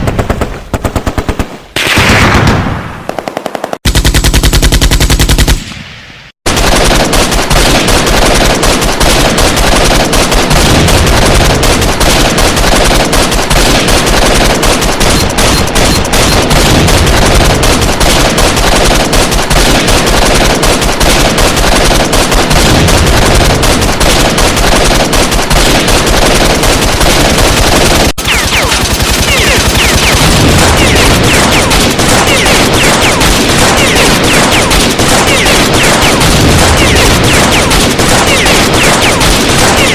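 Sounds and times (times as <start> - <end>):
rapid automatic gunfire: 0.0 - 5.7, 6.4 - 39.9.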